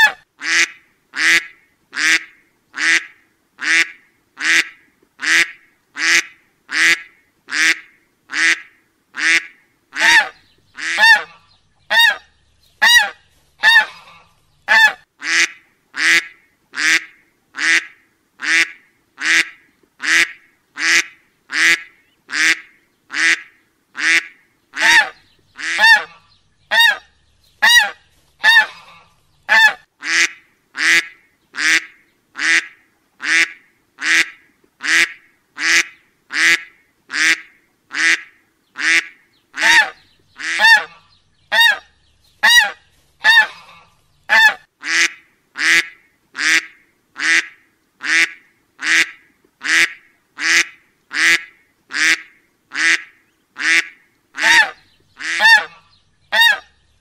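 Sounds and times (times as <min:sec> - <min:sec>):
waterfowl calling: 0:00.0 - 0:56.8.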